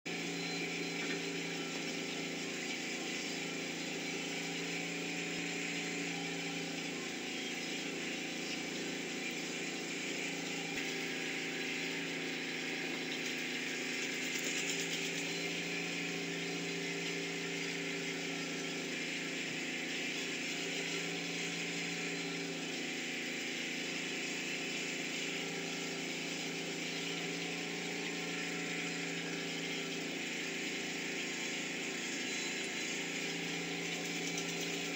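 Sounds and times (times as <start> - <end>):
steady mechanical hum: 0.1 - 34.9.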